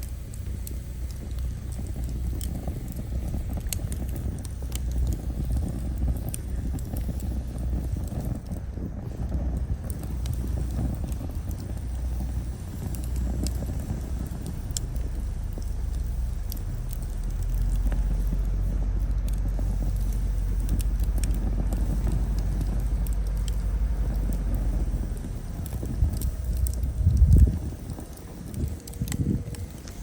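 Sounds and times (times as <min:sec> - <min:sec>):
low fire rumble: 0:00.0 - 0:30.0
wood fire crackling and popping: 0:00.0 - 0:30.0.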